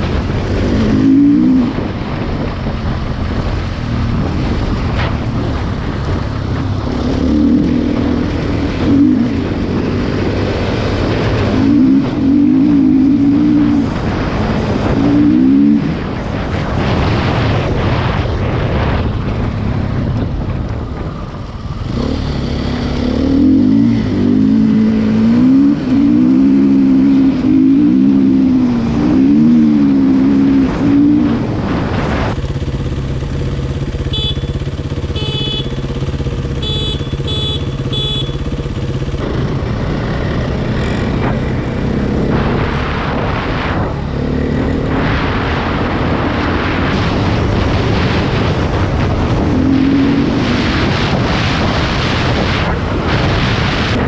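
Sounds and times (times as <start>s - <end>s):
motorcycle engine revving: 0.0s - 54.0s
wind on microphone: 0.0s - 54.0s.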